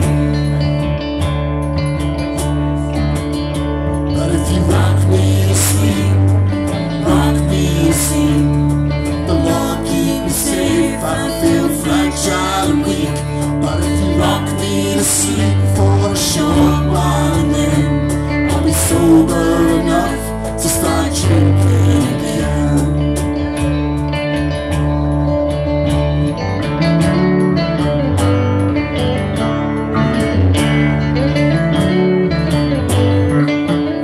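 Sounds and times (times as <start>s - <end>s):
bass guitar notes: 0.0s - 34.0s
live rock band playing: 0.0s - 34.0s
strummed guitar: 0.0s - 34.0s.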